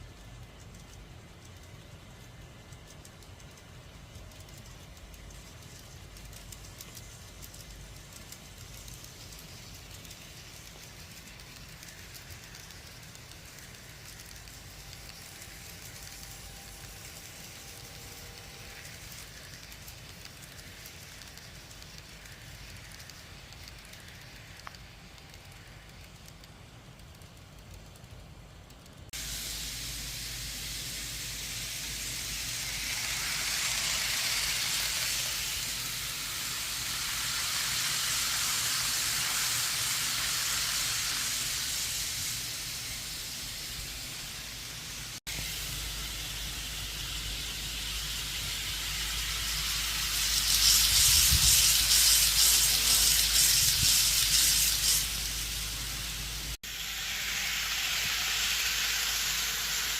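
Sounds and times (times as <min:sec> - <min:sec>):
model trains running on track: 0:00.0 - 0:59.9.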